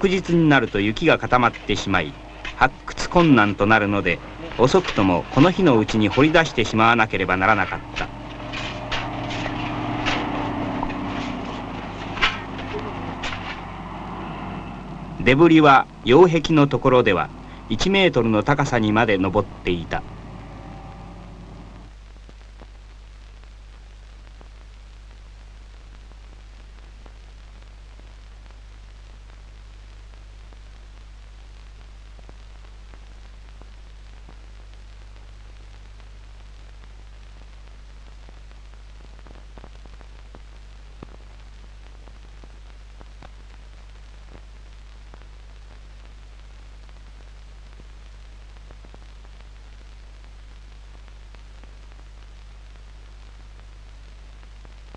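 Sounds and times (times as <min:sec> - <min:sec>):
film soundtrack hiss: 0:00.0 - 0:54.9
low mains hum: 0:00.0 - 0:54.9.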